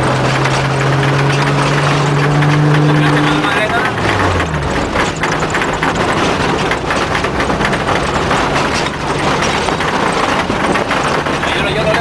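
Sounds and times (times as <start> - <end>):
irregular rattling: 0.0 - 12.0
low engine hum: 0.0 - 12.0
tyres on gravel and wind: 0.0 - 12.0.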